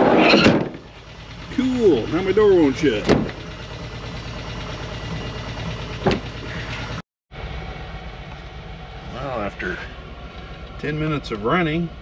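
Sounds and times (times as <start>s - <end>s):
van engine idling: 0.7s - 12.0s.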